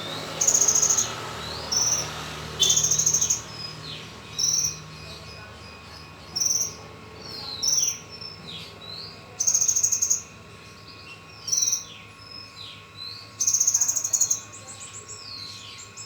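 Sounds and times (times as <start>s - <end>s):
bird chirping: 0.0s - 16.0s
buzzy bird trill: 0.0s - 16.0s.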